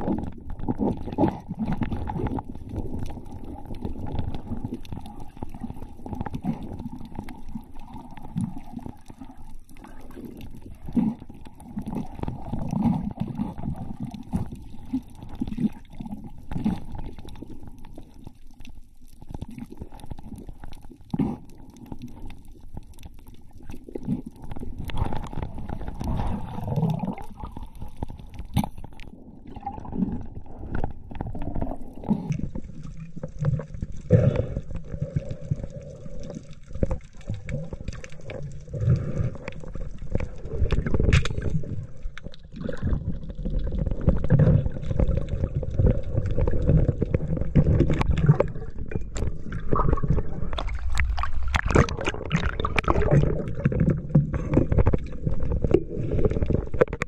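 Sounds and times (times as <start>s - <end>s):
muffled underwater water rumble: 0.0s - 57.0s.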